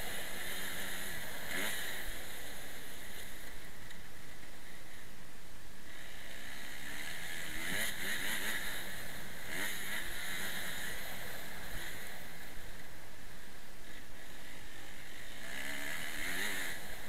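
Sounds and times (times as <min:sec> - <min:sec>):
motocross bike engine: 0:00.0 - 0:17.0.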